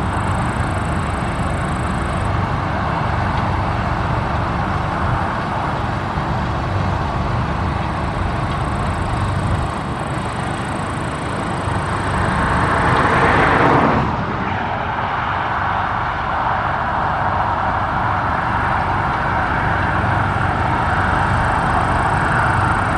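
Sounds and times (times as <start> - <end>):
combine harvester rumbling: 0.0 - 22.9.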